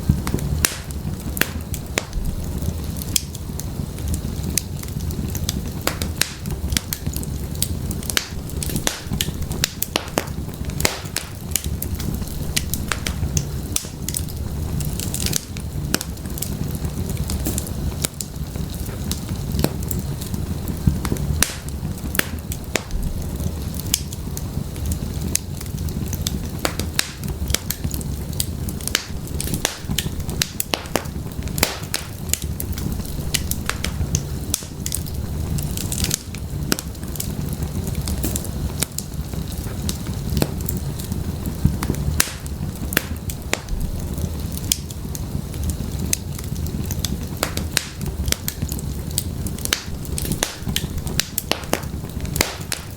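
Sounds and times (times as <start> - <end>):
low rumble of flame: 0.0 - 52.9
wood fire crackling: 0.0 - 52.9.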